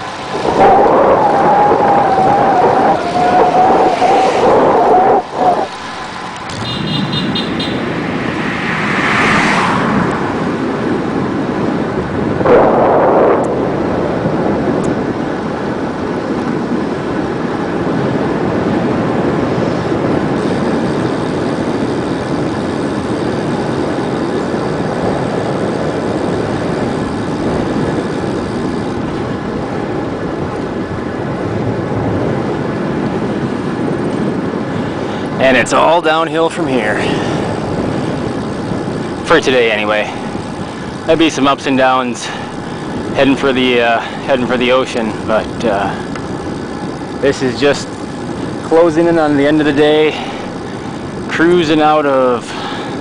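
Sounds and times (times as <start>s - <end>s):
bicycle tyre noise: 0.0s - 53.0s
wind rushing over microphone: 0.0s - 53.0s.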